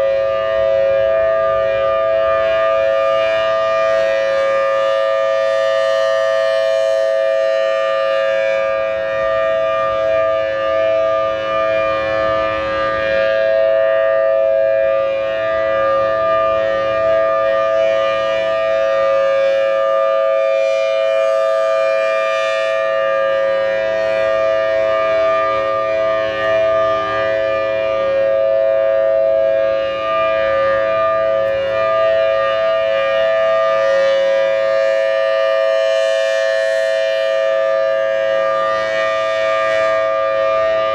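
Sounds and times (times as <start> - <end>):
warning siren two-note chord: 0.0 - 40.9.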